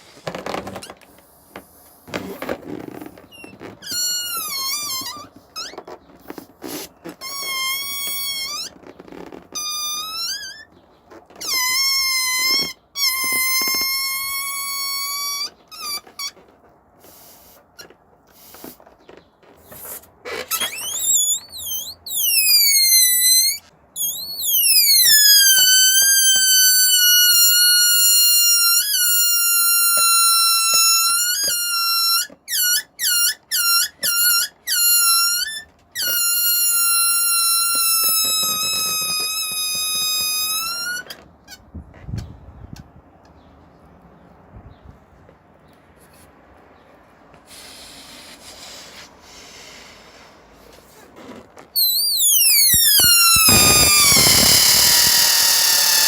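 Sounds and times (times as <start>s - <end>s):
balloon squealing: 0.0s - 41.8s, 47.4s - 56.0s.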